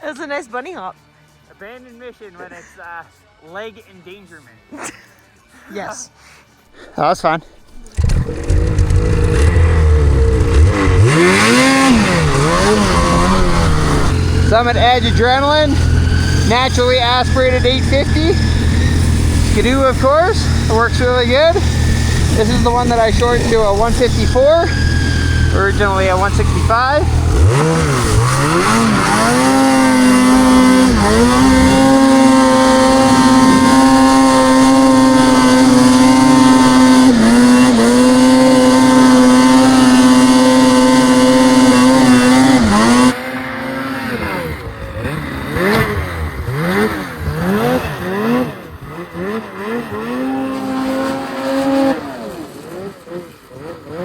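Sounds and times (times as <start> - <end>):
snowmobile engine revving: 7.2 - 54.0.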